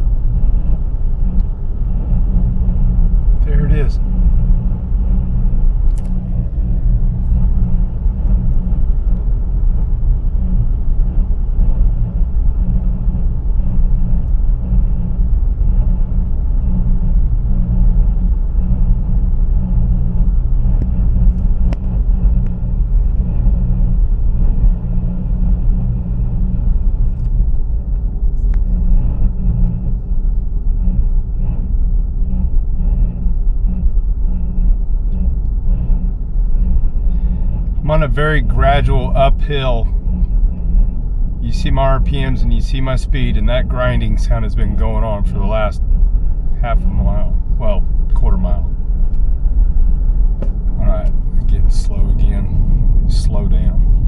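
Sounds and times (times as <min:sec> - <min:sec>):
car engine rumbling: 0:00.0 - 0:54.0
transmission grinding: 0:00.0 - 0:54.0.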